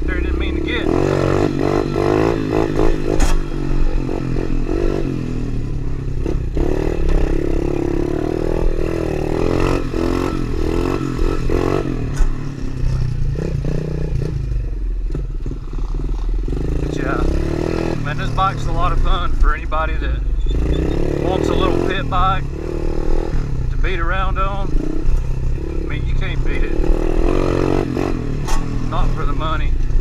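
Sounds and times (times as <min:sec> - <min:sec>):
pit bike engine revving: 0:00.0 - 0:30.0.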